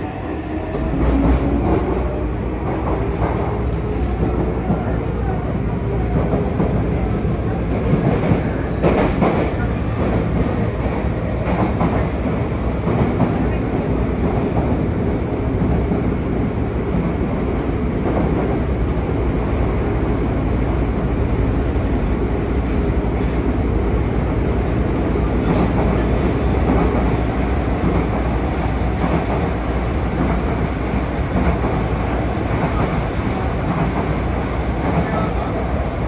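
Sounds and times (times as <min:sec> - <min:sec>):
subway train rumbling in tunnel: 0:00.0 - 0:36.0.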